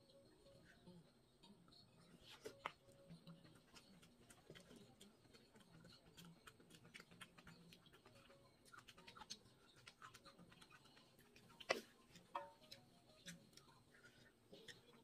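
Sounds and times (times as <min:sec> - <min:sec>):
quiet chewing: 0:00.1 - 0:15.0.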